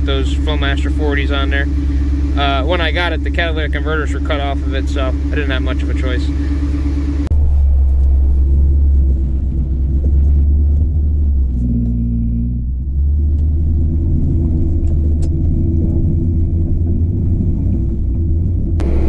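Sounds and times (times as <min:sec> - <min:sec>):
v eight engine exhaust rumble: 0:00.0 - 0:19.0.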